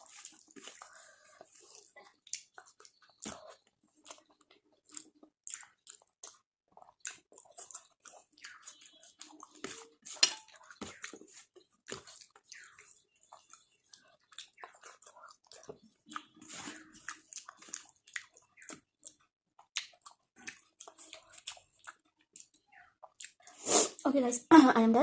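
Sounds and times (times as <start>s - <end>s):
clicks and squelches of food: 0.0s - 23.6s
wet chewing and mouth smacks: 0.0s - 23.6s.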